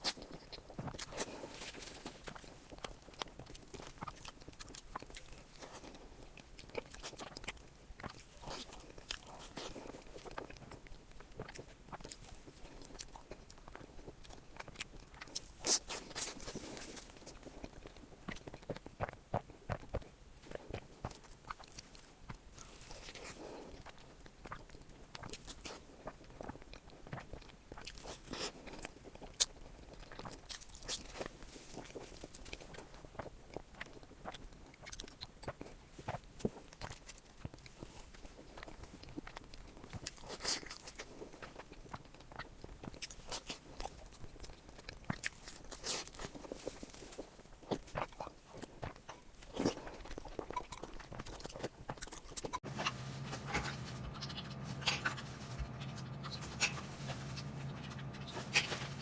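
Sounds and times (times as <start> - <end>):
crab shell crunching and cracking: 0.0 - 52.6.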